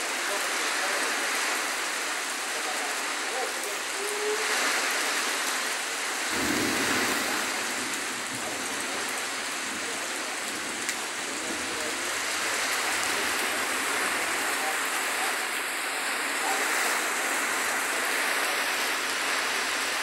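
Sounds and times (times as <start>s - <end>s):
heavy rain pouring on street: 0.0s - 20.0s.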